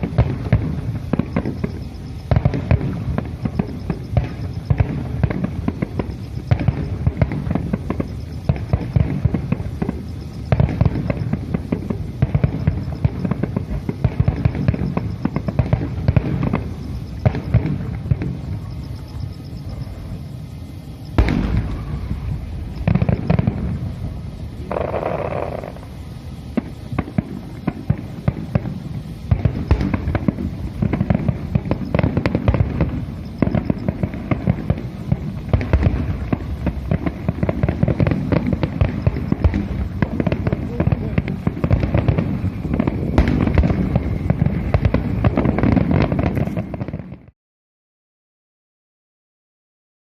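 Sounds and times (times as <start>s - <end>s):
firework shells bursting: 0.0s - 47.3s.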